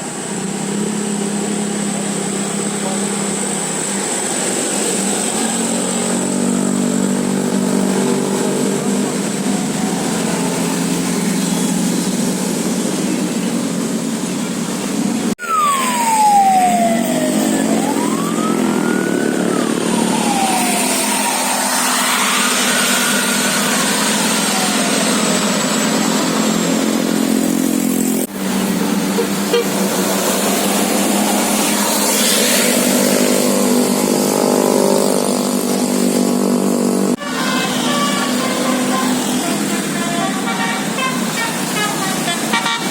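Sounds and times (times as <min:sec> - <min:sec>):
bus engines running: 0:00.0 - 0:42.9
siren horn wailing: 0:00.4 - 0:13.5, 0:15.4 - 0:35.2, 0:37.1 - 0:42.9.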